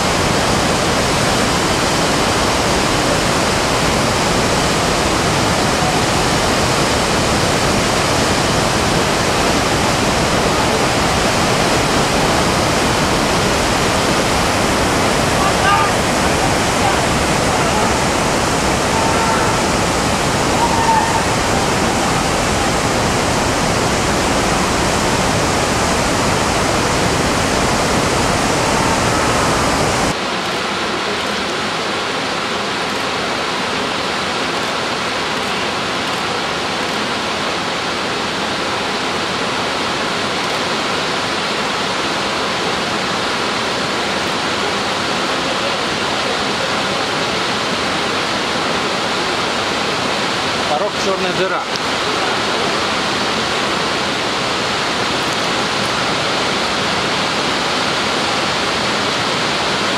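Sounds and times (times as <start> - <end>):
whitewater rapids rushing: 0.0 - 59.9.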